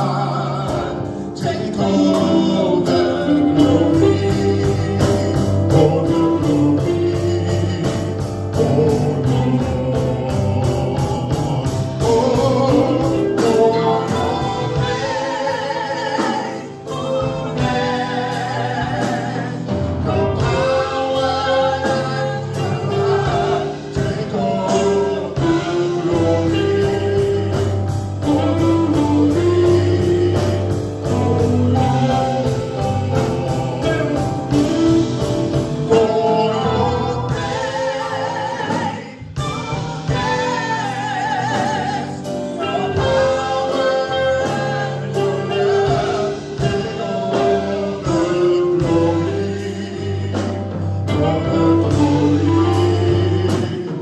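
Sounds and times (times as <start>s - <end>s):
group singing: 0.0s - 54.0s
live band playing a beat: 0.0s - 54.0s.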